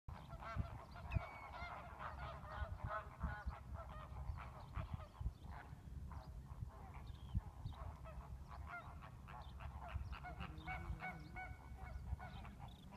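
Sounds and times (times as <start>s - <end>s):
waterbirds calling: 0.1s - 12.9s
wind rumble on microphone: 0.1s - 12.9s.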